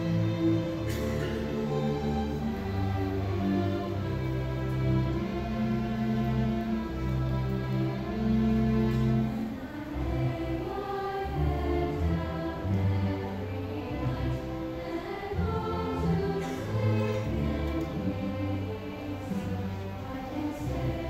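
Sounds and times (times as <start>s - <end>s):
choir singing: 0.0s - 21.0s
low strings bass notes: 0.0s - 21.0s
orchestra accompanying: 0.0s - 21.0s.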